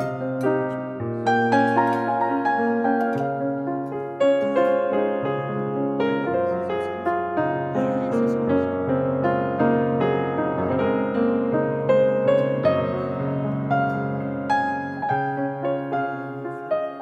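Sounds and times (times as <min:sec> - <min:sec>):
calm piano melody: 0:00.0 - 0:17.0.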